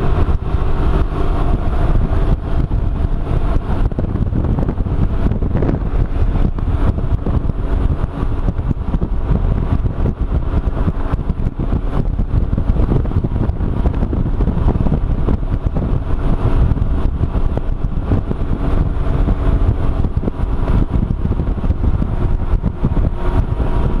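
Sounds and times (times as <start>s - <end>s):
motorcycle engine drone: 0.0s - 24.0s
wind buffeting microphone: 0.0s - 24.0s.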